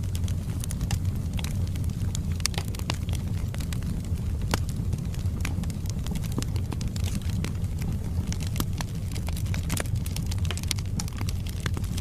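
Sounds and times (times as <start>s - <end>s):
logs crackling and popping: 0.0s - 12.0s
low rumble of flames: 0.0s - 12.0s.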